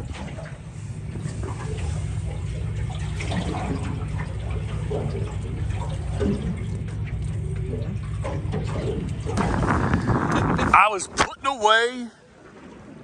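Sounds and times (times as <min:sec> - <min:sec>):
wind rumble on microphone: 0:00.0 - 0:11.4
water lapping against boat hull: 0:00.0 - 0:13.0.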